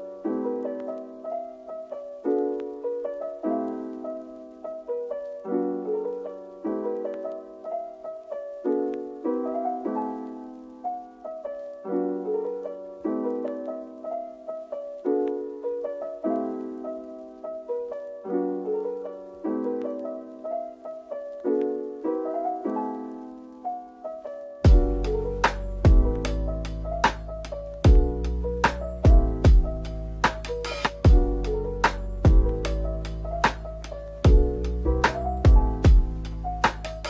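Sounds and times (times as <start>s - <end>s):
soft piano music: 0.0s - 37.0s.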